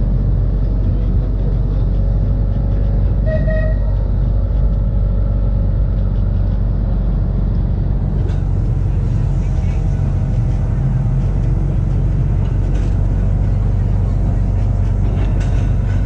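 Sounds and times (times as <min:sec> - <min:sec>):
tram rumbling along track: 0:00.0 - 0:16.0.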